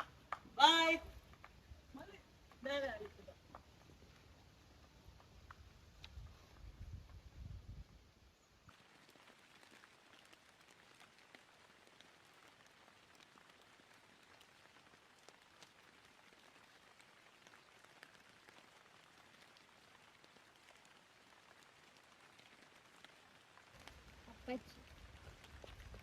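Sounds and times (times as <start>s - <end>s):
raindrop ticks: 0.0s - 7.2s, 8.6s - 26.0s
light rain falling: 0.0s - 26.0s.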